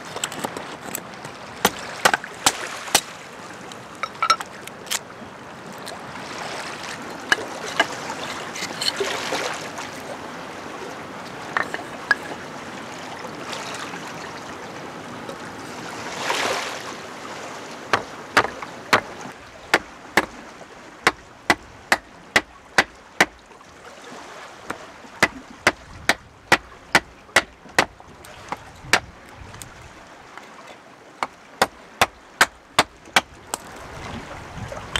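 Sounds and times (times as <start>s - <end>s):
small waves washing on shore: 0.0s - 34.9s.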